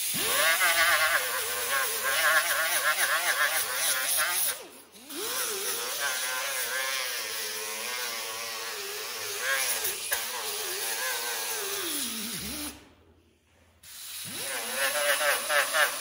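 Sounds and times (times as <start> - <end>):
pneumatic grinder whining on metal: 0.0 - 13.0, 13.8 - 16.0.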